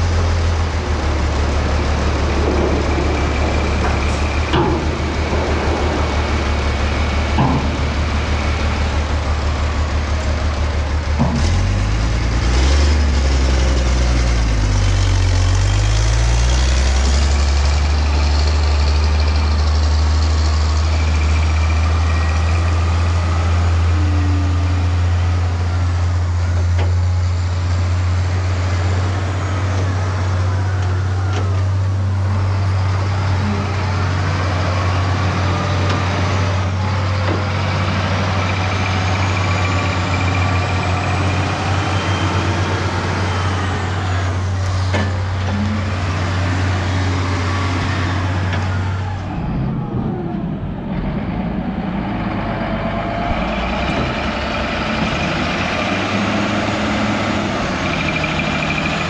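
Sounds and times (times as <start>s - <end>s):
heavy diesel engines droning: 0.0s - 59.0s.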